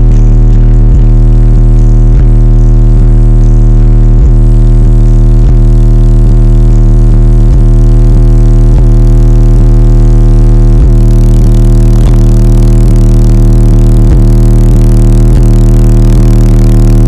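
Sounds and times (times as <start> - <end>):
distorted deep bass note: 0.0 - 17.0.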